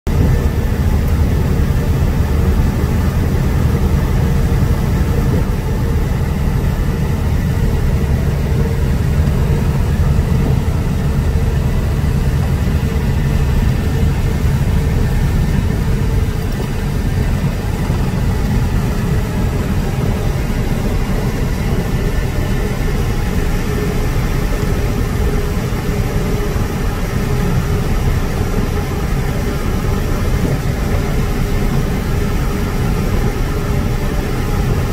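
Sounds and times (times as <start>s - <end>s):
truck engine drone: 0.1s - 34.9s.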